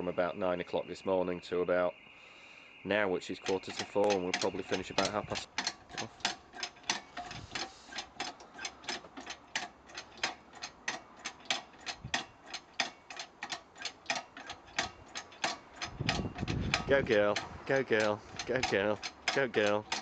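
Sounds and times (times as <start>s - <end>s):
cider press clicking: 3.3s - 20.0s.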